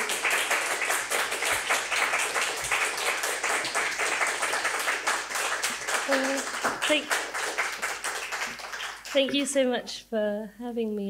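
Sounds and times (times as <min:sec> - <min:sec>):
hands clapping: 0:00.0 - 0:09.6.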